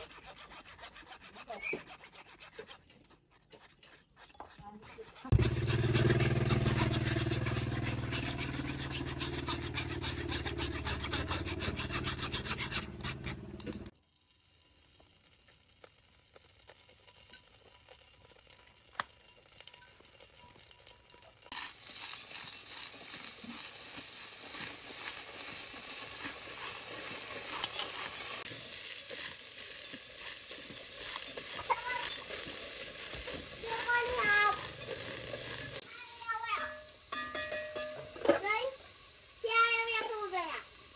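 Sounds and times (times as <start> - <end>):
food sizzling in a pot: 5.2 - 40.9.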